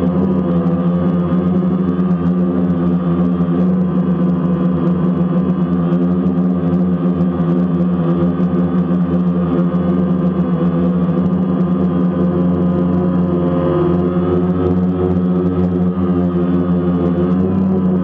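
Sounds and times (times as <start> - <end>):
drone propellers humming: 0.0 - 18.0.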